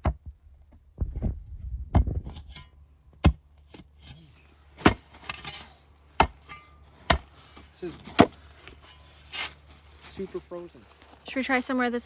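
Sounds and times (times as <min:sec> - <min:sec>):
digging tool chopping frozen ground: 0:00.0 - 0:10.3.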